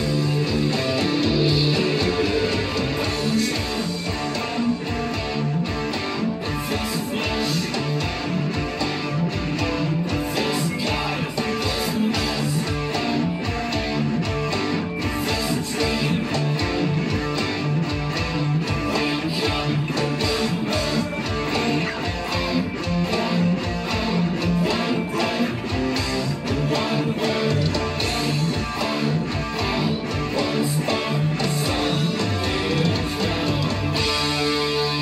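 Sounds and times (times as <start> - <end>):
electric guitar riff: 0.0 - 35.0.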